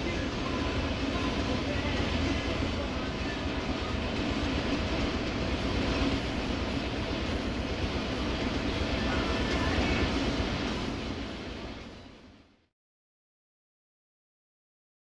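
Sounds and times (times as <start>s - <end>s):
wheels rumbling on rails: 0.0s - 12.6s
diesel locomotive engine drone: 0.0s - 12.7s.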